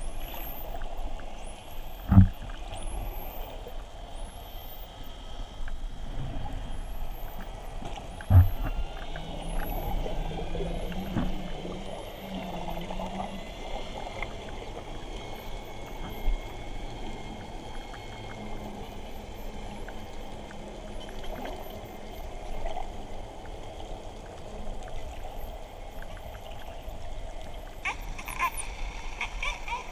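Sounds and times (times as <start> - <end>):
underwater water noise: 0.0 - 29.9.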